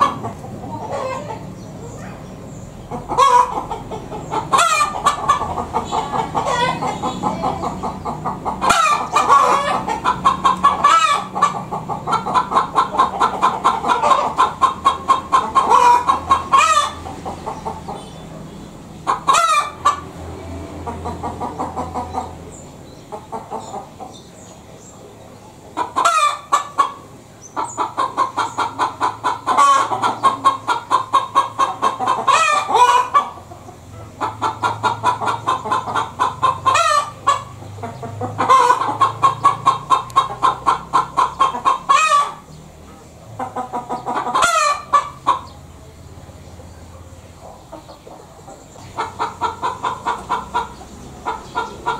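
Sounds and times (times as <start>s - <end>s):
hen cackling: 0.0s - 24.4s, 25.6s - 42.6s, 43.3s - 45.8s, 47.4s - 51.9s.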